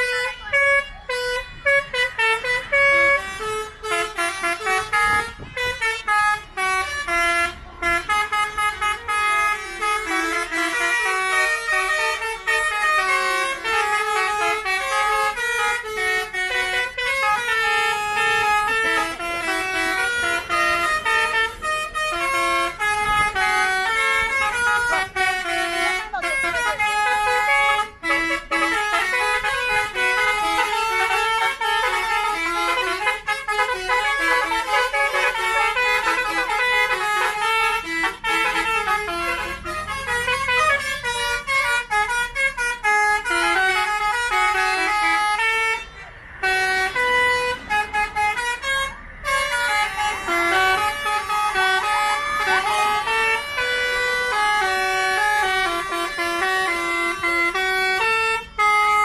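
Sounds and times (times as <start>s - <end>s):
bus horns playing tunes: 0.0s - 59.0s.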